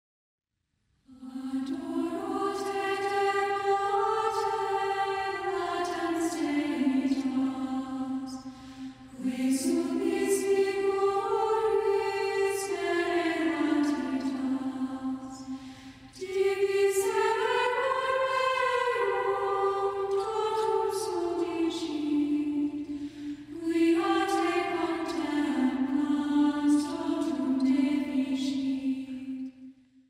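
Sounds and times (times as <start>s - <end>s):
choir singing a slow chant: 1.1s - 30.0s.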